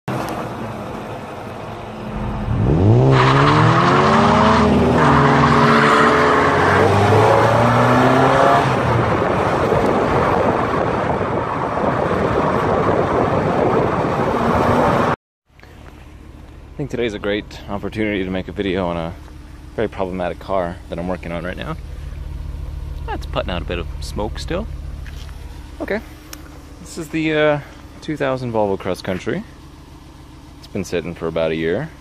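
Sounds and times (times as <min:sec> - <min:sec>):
road noise: 0:00.1 - 0:32.0
car engine revving: 0:01.9 - 0:15.2, 0:16.4 - 0:32.0.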